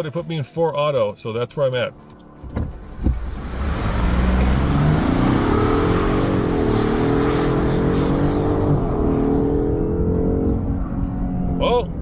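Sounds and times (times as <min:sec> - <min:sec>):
truck engine accelerating: 0:02.3 - 0:12.0.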